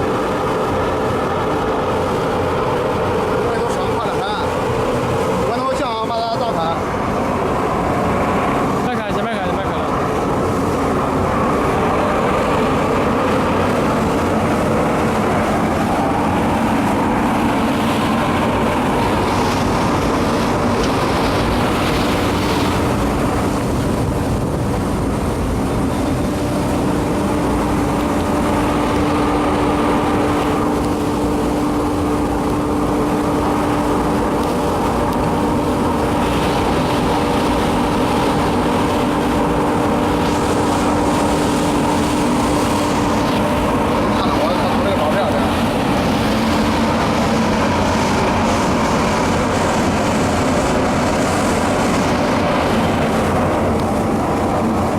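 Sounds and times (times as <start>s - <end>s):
burner blower and combustion roar: 0.0s - 54.9s
steady hum: 0.0s - 54.9s.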